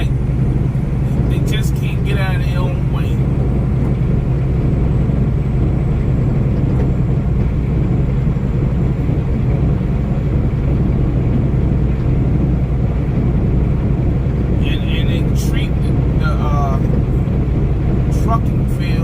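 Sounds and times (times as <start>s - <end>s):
vehicle engine and road drone: 0.0s - 19.0s.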